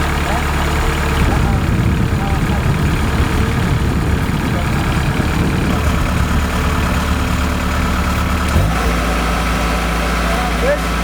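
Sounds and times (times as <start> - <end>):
combine harvester diesel engine running: 0.0 - 11.0.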